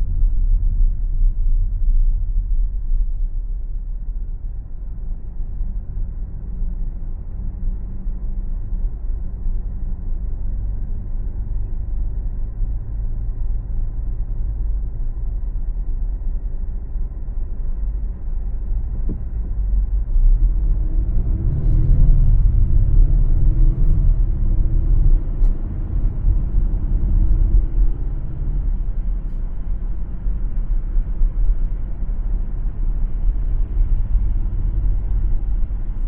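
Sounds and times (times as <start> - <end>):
car driving rumble: 0.0 - 36.0.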